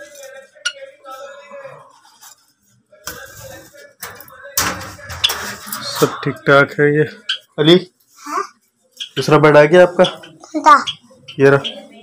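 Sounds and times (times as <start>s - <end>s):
faint murmur of voices: 0.0s - 12.0s.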